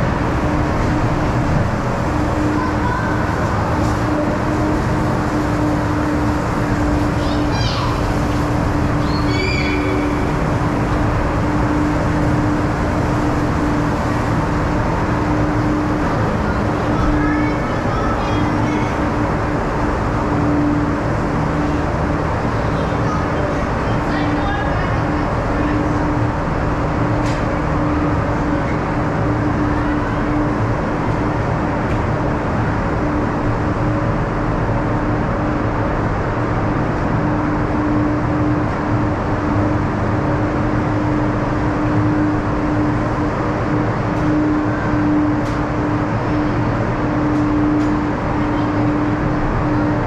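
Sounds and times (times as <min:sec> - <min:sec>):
ice resurfacer engine drone: 0:00.0 - 0:50.0.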